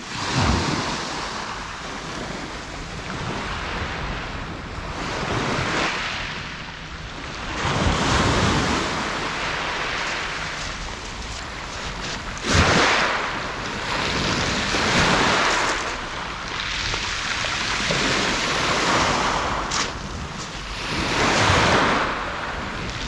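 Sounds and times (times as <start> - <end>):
waves washing over pebbles: 0.0 - 23.0
wind rumbling on microphone: 0.0 - 23.0.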